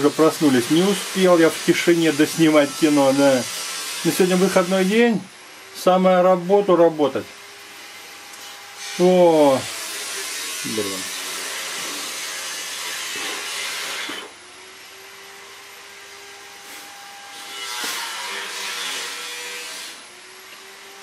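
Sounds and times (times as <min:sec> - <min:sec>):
power tool cutting wood: 0:00.0 - 0:21.0
power tool running whine: 0:00.0 - 0:21.0.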